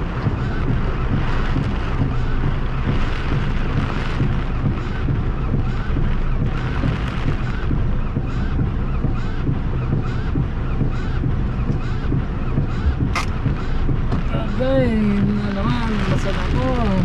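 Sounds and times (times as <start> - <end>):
heavy rain on a car: 0.0 - 17.0
wind buffeting microphone: 0.0 - 17.0
windscreen wipers squeaking: 0.0 - 17.0.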